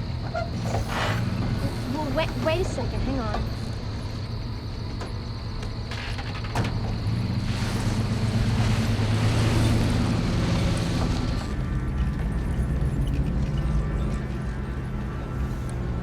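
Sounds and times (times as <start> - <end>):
truck engine running: 0.0 - 16.0
wind and tyres rushing: 0.0 - 16.0.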